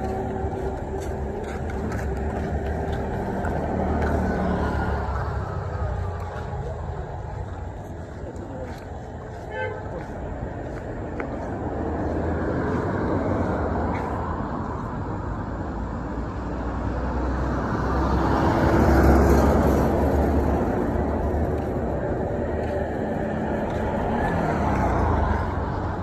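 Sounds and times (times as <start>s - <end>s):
road traffic rumble: 0.0s - 26.0s
vehicle passing: 0.0s - 26.0s.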